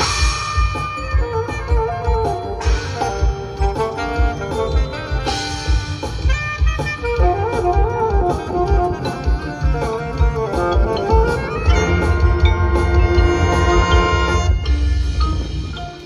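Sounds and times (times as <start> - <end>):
brass playing chords and melody: 0.0 - 15.2
steady low drum beat: 0.0 - 16.0.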